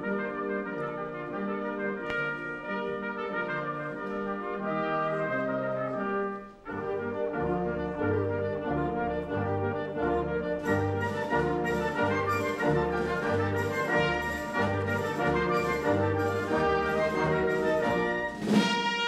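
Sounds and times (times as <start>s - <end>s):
brass ensemble playing slow music: 0.0s - 19.0s.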